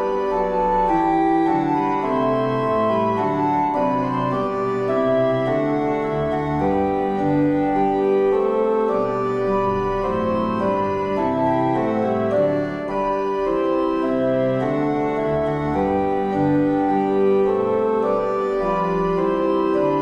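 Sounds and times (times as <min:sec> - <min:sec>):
organ chords: 0:00.0 - 0:20.0.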